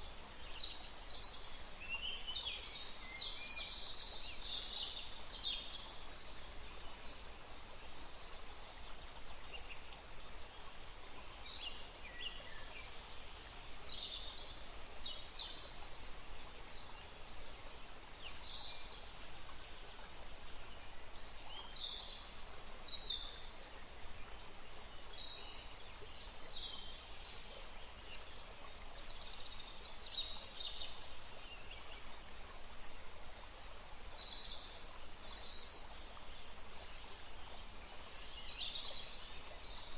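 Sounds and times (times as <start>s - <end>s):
songbirds chirping: 0.0s - 39.9s
steady outdoor hiss: 0.0s - 39.9s.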